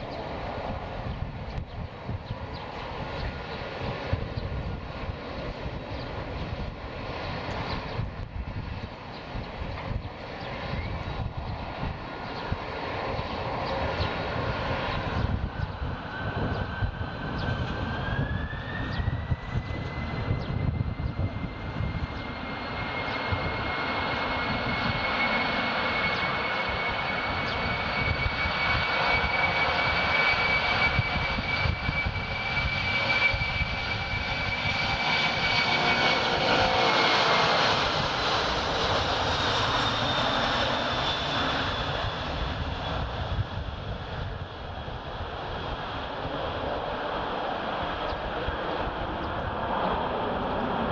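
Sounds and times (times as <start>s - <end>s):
jet engines whining and rumbling: 0.0s - 50.9s.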